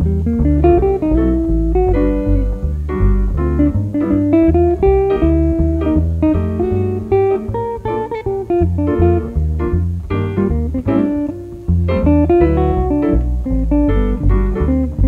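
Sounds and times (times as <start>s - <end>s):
jazz trio playing: 0.0s - 15.0s
plucked upright bass: 0.0s - 15.0s.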